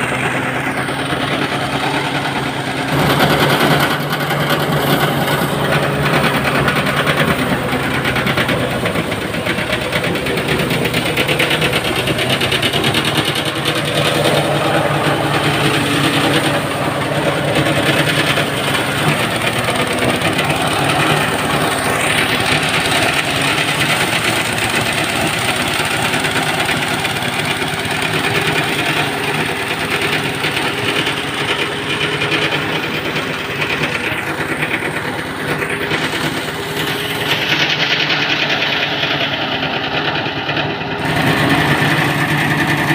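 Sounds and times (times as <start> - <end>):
rice thresher engine running: 0.0 - 42.9.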